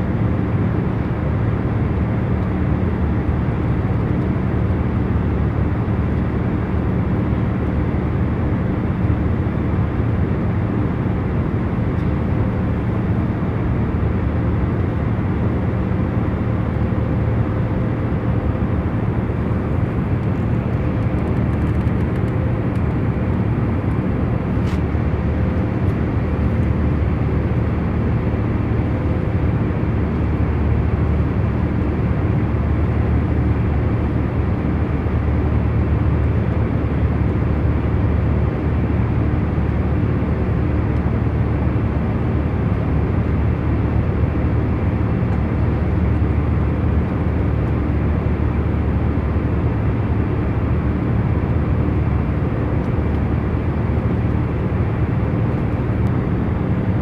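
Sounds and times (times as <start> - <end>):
engine and airflow rumble: 0.0 - 57.0.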